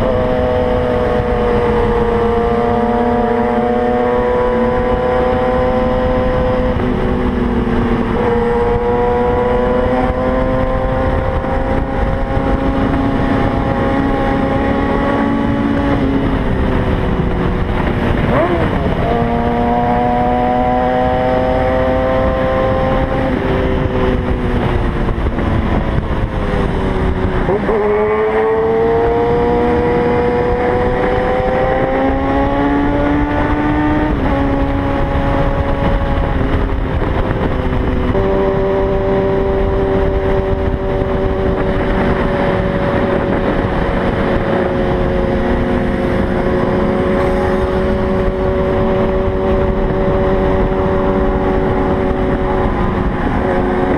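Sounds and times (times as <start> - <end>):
motorcycle engine at speed: 0.0 - 53.9
wind rushing: 0.0 - 53.9.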